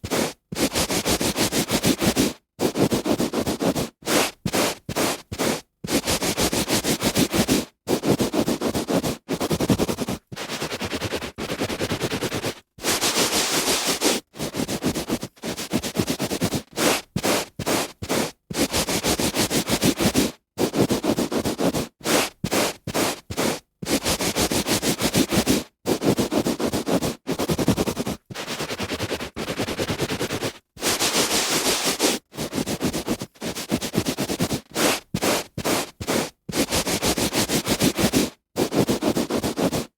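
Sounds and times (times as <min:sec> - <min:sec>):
hand rubbing on carpet: 0:00.0 - 0:39.9.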